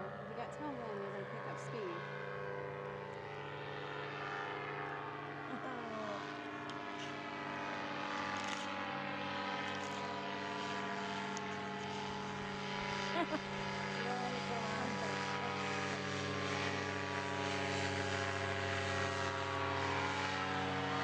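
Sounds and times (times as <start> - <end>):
paramotor engine humming overhead: 0.0 - 21.0.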